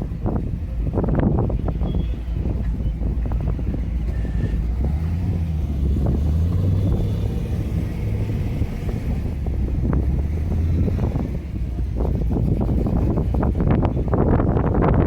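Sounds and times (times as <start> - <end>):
car engine humming: 0.0 - 15.0
wind buffeting microphone: 0.0 - 15.0.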